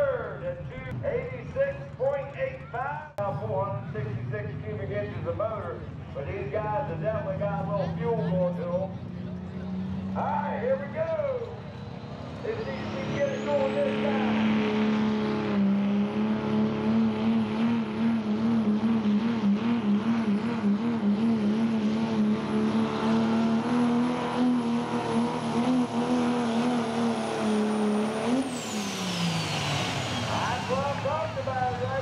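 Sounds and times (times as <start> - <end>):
diesel engine at full throttle: 0.0 - 32.0.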